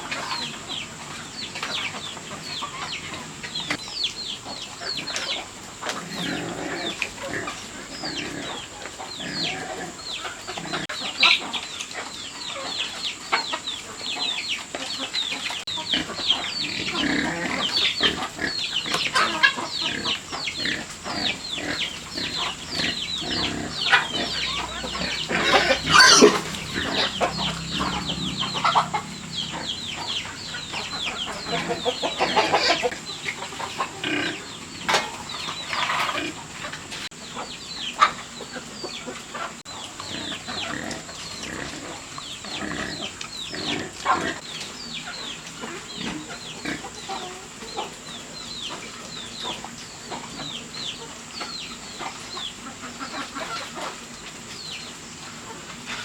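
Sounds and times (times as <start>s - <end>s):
chickens peeping: 0.0s - 56.0s.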